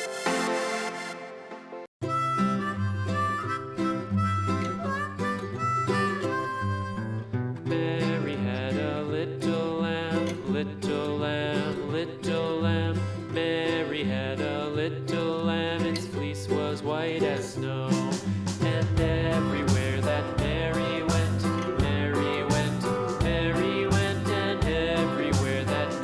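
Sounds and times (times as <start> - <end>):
country music with plucked guitar: 2.0 - 26.0.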